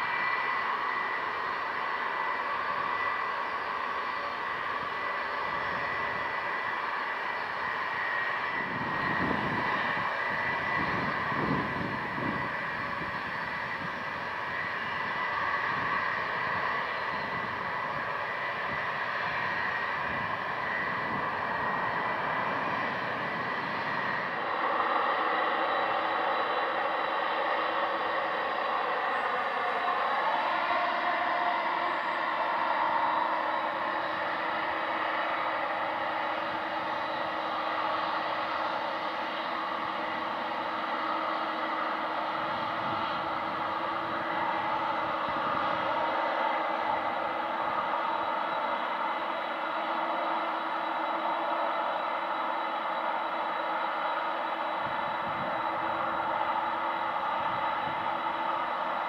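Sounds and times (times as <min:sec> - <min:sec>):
jet airliner roaring at takeoff: 0:00.0 - 0:59.0
jet engines whining on landing: 0:00.0 - 0:59.0.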